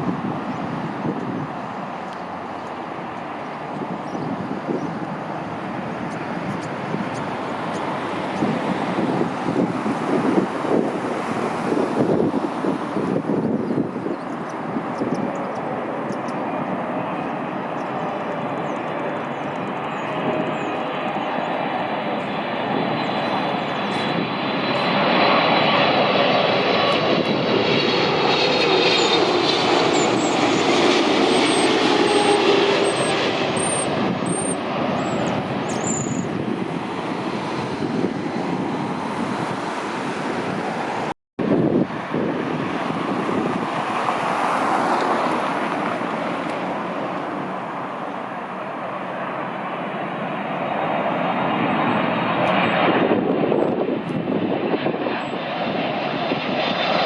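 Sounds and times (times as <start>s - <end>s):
jet airliner passing: 0.0s - 57.0s.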